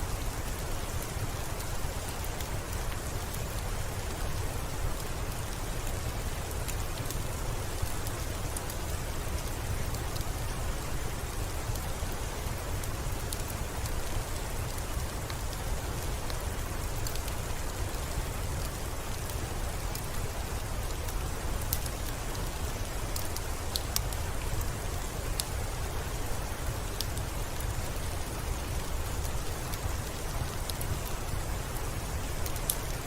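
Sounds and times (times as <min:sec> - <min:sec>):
soft rain: 0:00.0 - 0:33.0
wood fire crackling: 0:00.1 - 0:33.0.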